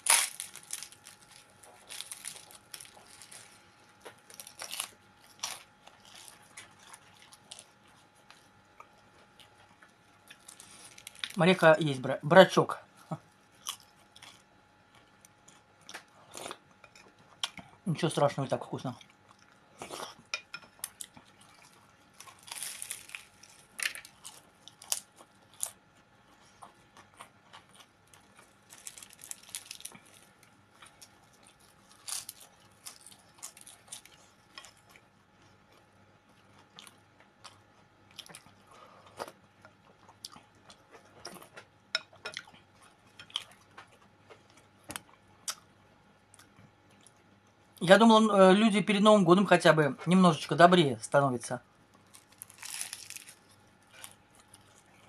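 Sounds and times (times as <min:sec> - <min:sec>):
person chewing: 0:00.0 - 0:11.4, 0:12.9 - 0:17.8, 0:19.0 - 0:47.2, 0:51.8 - 0:55.0.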